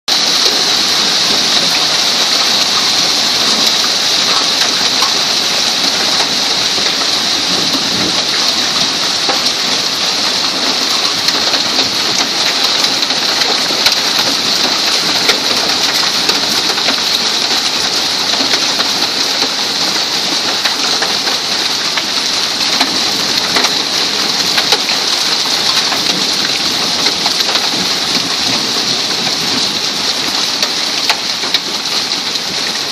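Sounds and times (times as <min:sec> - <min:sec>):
hail and rain pelting: 0:00.1 - 0:32.9.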